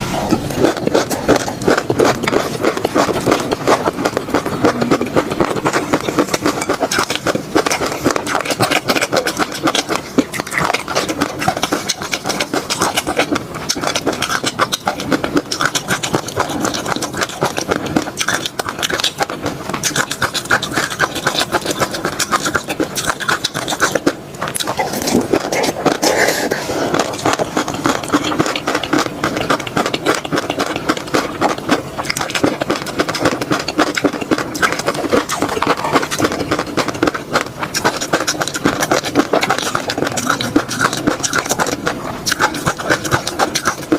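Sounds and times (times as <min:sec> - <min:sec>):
mouth chewing and smacking: 0:00.0 - 0:43.9.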